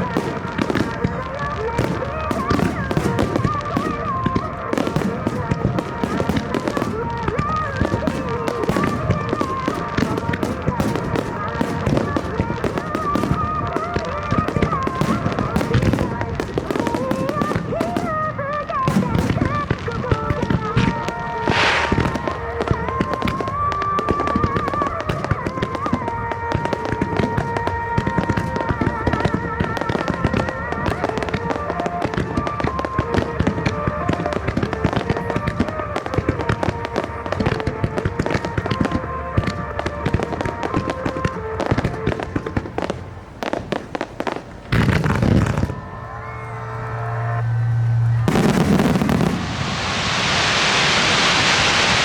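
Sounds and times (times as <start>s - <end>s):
fireworks bursting: 0.0s - 52.0s
music playing: 0.0s - 52.0s.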